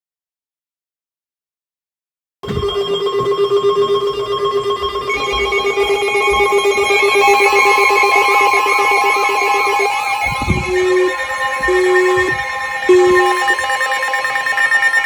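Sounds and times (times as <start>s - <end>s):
radio alert alarm tone: 2.4s - 15.0s
warbling alarm sweep: 2.4s - 15.0s.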